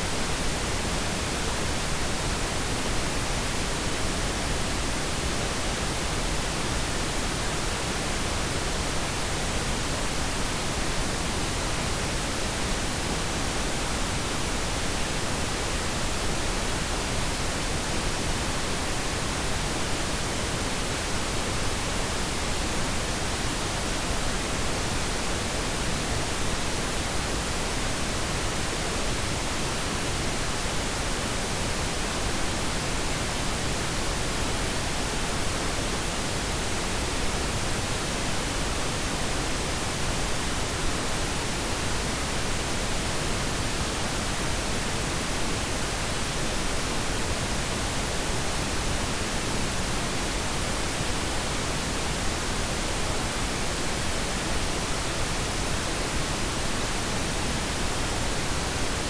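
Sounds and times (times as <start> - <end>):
steady pink noise hiss: 0.0 - 59.0.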